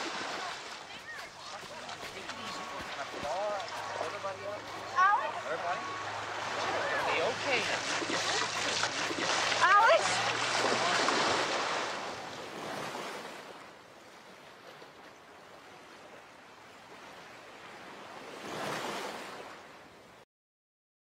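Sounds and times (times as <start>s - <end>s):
small waves washing on shore: 0.0s - 20.2s.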